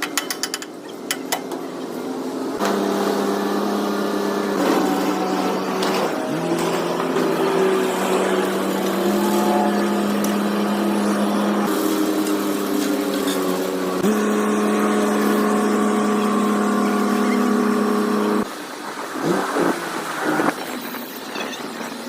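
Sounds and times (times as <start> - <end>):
excavator engine running: 0.0 - 18.5.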